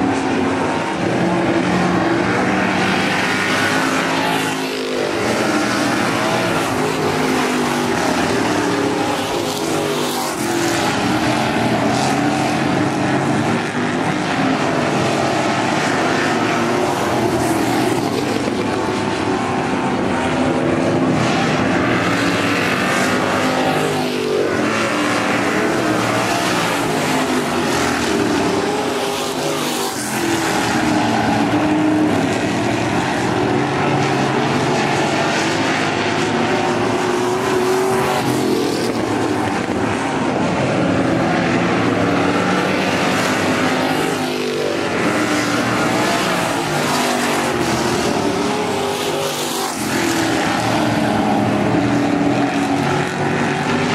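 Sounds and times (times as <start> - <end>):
stock car engines racing: 0.0 - 53.9.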